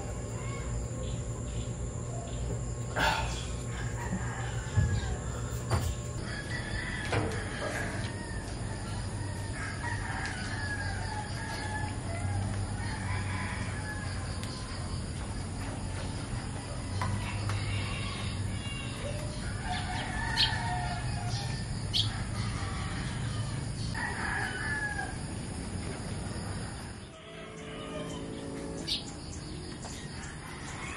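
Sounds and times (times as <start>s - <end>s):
steady low hum: 0.0s - 30.4s
roosters crowing: 0.0s - 30.9s.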